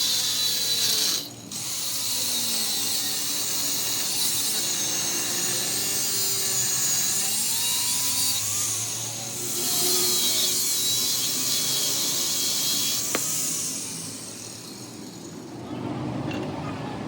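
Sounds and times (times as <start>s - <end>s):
power tool high-pitched hiss: 0.0s - 15.5s.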